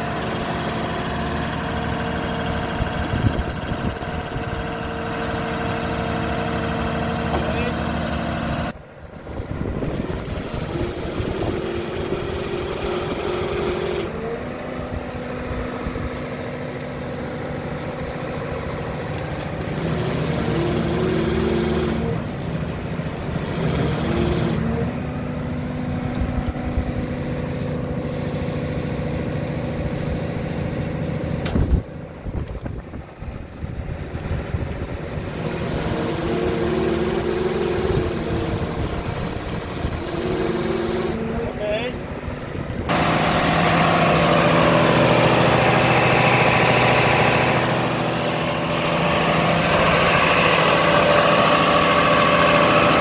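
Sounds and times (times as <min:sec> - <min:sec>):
hydraulic hissing whine: 0:00.0 - 0:53.0
power pack engine running: 0:00.0 - 0:53.0.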